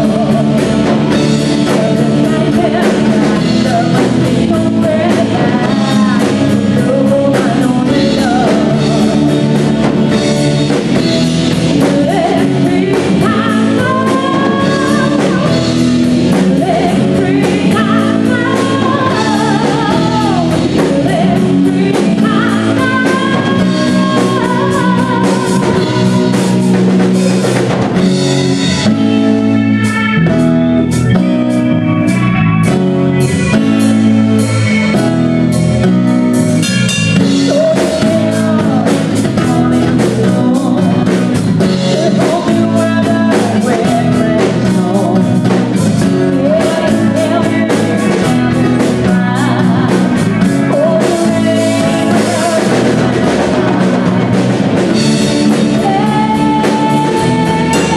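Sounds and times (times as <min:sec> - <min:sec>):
lead singer singing: 0:00.0 - 0:57.9
rock band playing live: 0:00.0 - 0:57.9.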